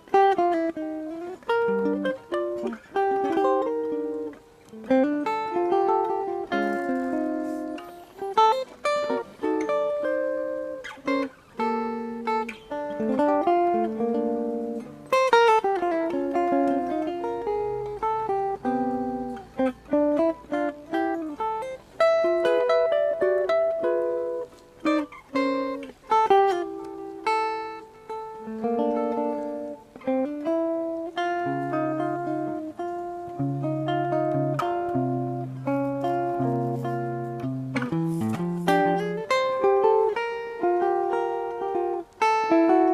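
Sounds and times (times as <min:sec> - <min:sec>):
jazz guitar chords: 0:00.0 - 0:42.9.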